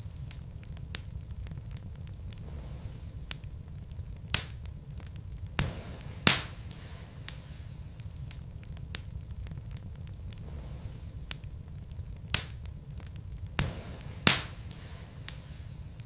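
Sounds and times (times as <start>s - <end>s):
low steady rumble: 0.0s - 16.0s
wood fire crackling and popping: 0.0s - 16.0s.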